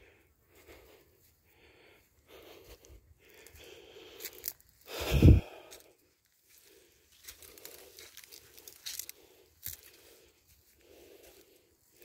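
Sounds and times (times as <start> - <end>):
footsteps crunching on dirt trail: 0.0 - 12.0
soft breathing: 0.0 - 12.0.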